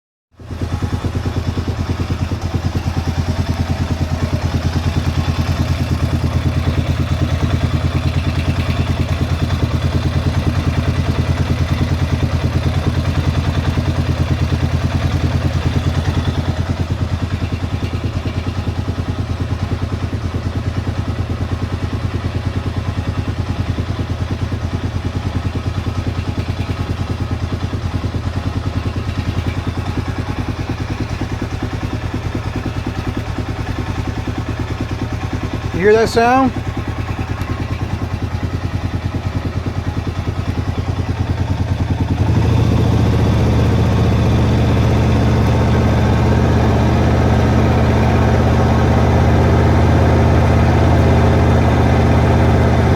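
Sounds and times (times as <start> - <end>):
engine idling: 0.4 - 52.9.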